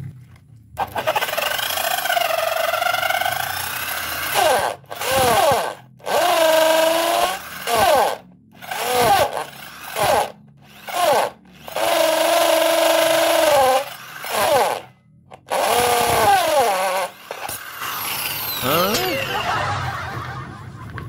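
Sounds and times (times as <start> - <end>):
electric drill motor whine: 0.8 - 20.1.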